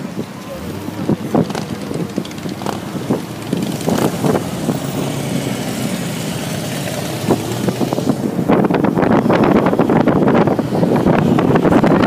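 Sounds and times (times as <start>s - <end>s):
road and traffic noise: 0.0s - 12.0s
motorcycle engine running: 0.5s - 11.6s.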